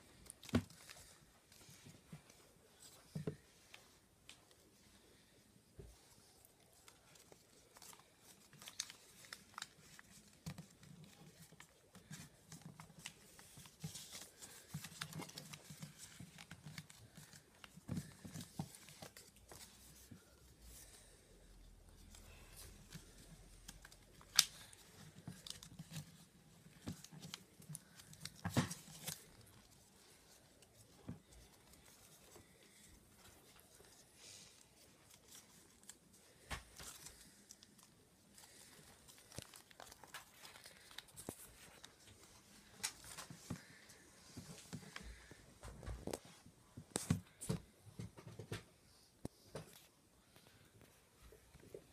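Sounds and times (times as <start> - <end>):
paper rustling and crinkling: 0.0 - 48.6.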